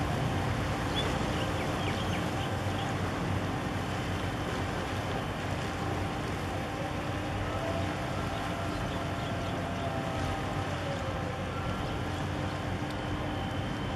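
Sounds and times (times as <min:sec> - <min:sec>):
boat engine drone: 0:00.0 - 0:13.9
water rushing: 0:00.0 - 0:13.9.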